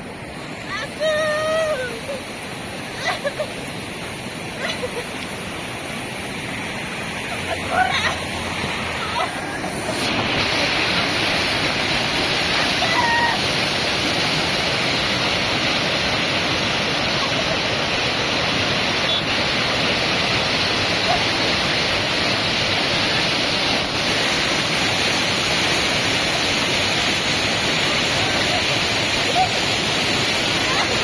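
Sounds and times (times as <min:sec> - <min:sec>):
floodwater rushing and churning: 0:00.0 - 0:31.0.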